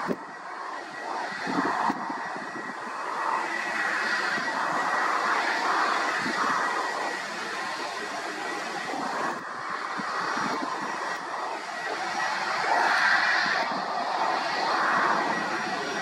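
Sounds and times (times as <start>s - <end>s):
distant jet engines: 0.0s - 16.0s.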